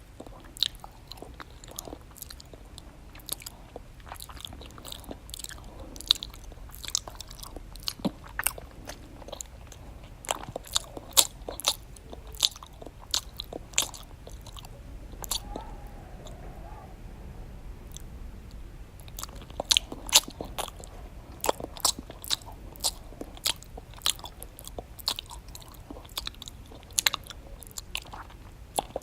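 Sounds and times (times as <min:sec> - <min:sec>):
open-mouthed chewing with lip smacks: 0:00.0 - 0:17.0, 0:19.0 - 0:29.0.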